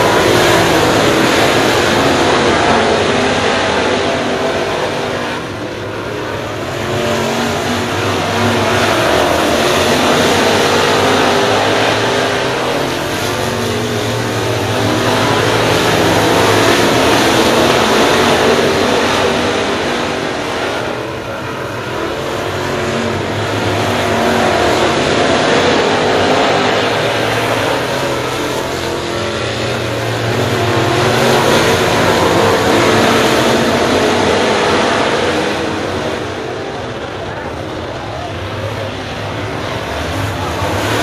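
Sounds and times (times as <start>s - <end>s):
race car engines roaring: 0.0s - 41.0s.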